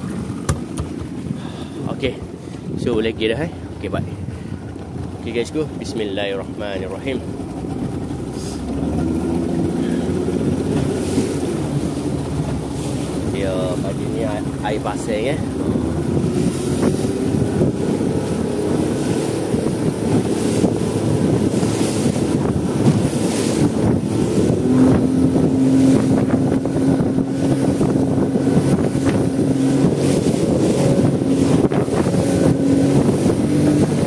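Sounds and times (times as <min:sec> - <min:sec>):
outboard motor running: 0:00.0 - 0:34.0
water rushing past hull: 0:00.0 - 0:34.0
wind buffeting microphone: 0:00.0 - 0:34.0.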